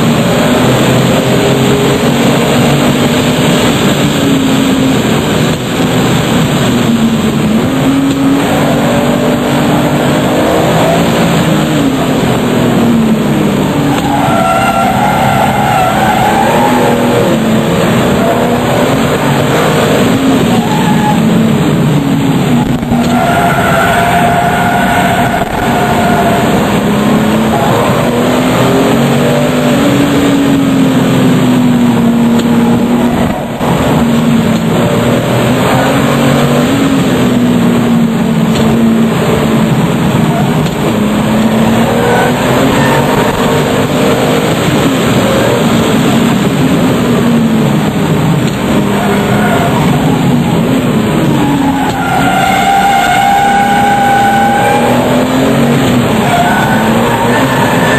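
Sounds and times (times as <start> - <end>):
car engine running hard: 0.0 - 57.9.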